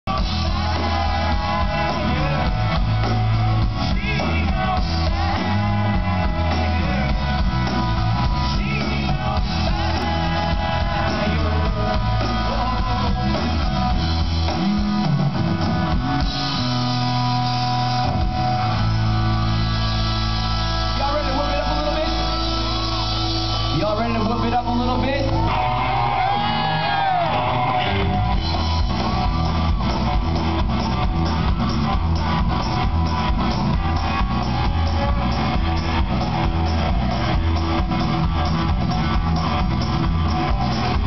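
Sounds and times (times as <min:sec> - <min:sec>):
rock band playing live: 0:00.0 - 0:41.0
electric guitar: 0:00.1 - 0:41.0.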